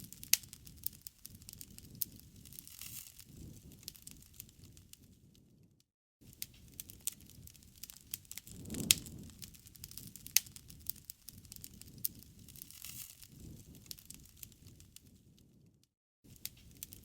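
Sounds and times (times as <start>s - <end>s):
campfire crackling and popping: 0.0s - 5.6s, 6.2s - 15.7s, 16.3s - 17.0s
low rumble of burning wood: 0.0s - 17.0s.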